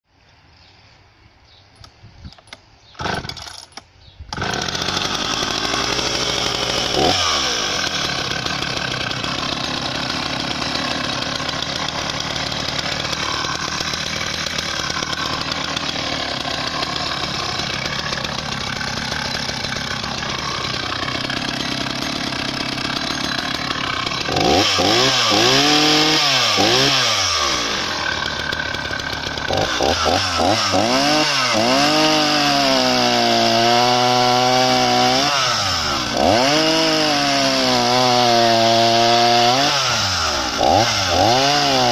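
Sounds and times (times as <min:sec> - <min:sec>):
chainsaw starting and revving: 0:03.0 - 0:41.9.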